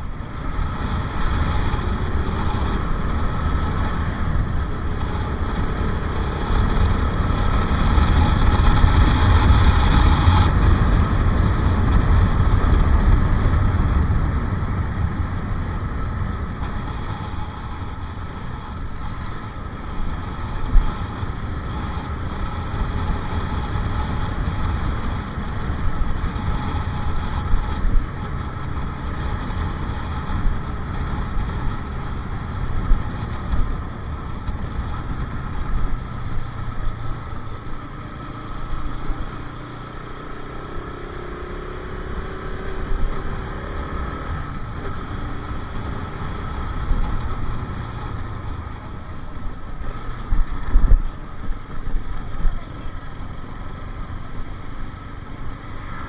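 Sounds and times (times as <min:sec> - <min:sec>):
motorcycle engine running: 0:00.0 - 0:56.0
rumbling wind noise: 0:00.0 - 0:56.0.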